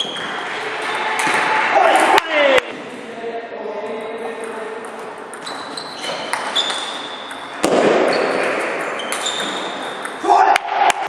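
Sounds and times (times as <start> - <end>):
sports hall hum: 0.0 - 11.0.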